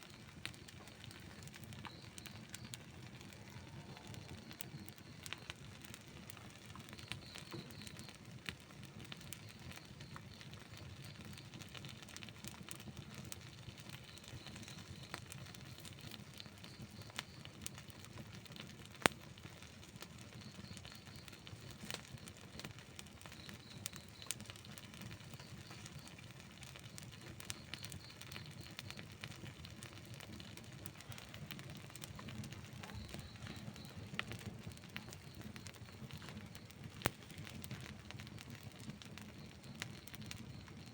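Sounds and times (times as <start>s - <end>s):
burning wood crackling and popping: 0.0s - 40.9s
campfire flames rushing: 0.0s - 40.9s.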